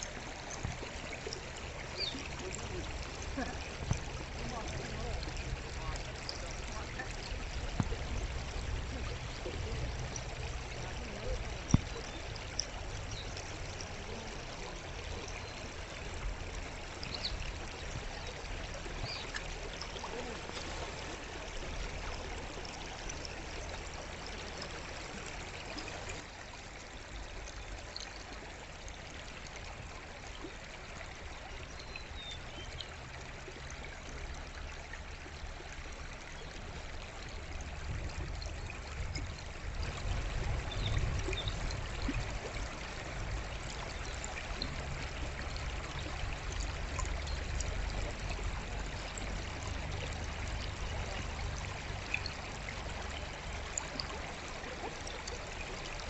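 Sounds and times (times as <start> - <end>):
forest stream flowing: 0.0 - 56.0.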